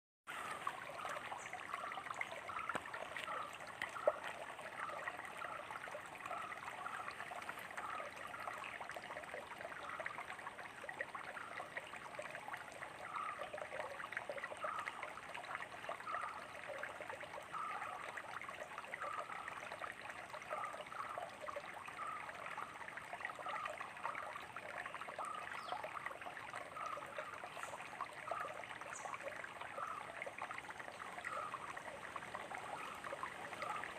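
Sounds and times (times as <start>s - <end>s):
stream trickling and gurgling: 0.3s - 33.9s.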